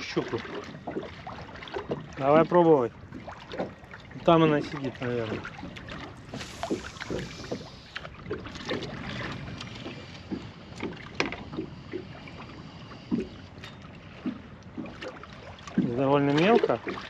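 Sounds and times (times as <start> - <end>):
small waves lapping against hull: 0.0 - 17.0.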